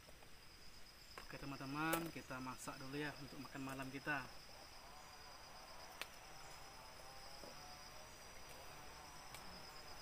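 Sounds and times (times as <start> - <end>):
forest insects chorus: 0.0 - 10.0.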